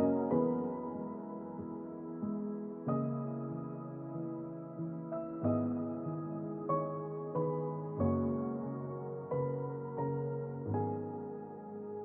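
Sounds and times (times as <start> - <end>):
soft new-age music: 0.0 - 12.0.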